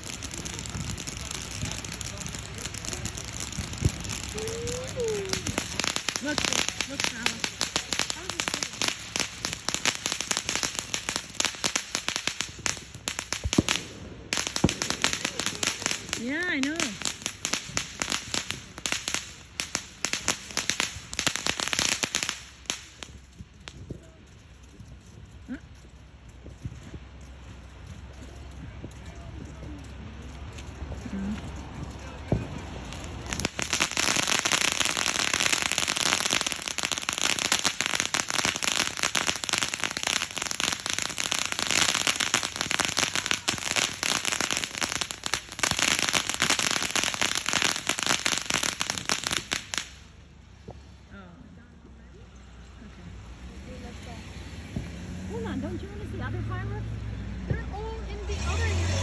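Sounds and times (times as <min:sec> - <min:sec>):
firecrackers popping: 0:00.0 - 0:56.9, 0:57.5 - 0:59.0.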